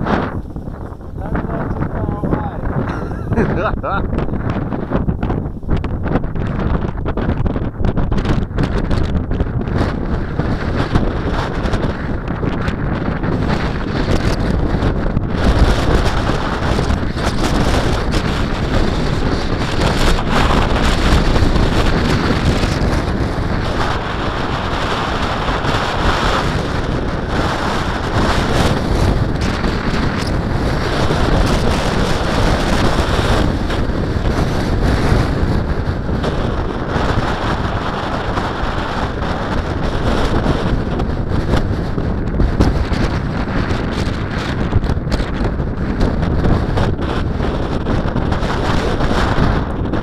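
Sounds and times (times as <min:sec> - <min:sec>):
strong wind gusting on microphone: 0:00.0 - 0:50.0.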